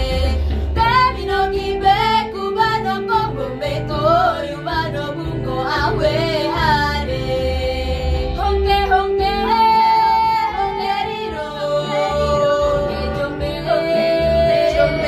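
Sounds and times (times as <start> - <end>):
women singing in harmony: 0.0 - 15.0.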